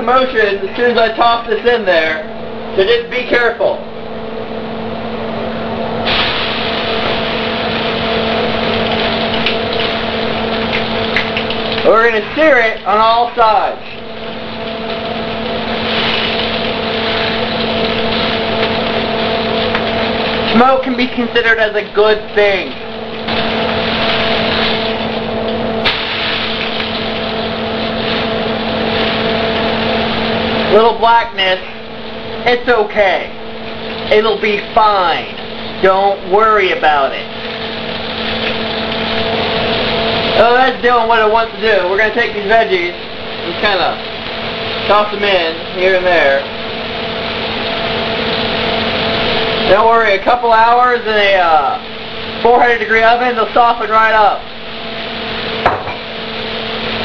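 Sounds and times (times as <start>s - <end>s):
steady low hum: 0.0s - 57.0s
meat sizzling in hot oil: 4.0s - 57.0s.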